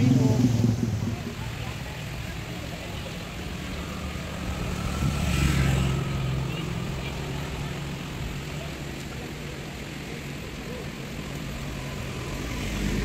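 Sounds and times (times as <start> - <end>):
passing vehicles engine drone: 0.0 - 13.0.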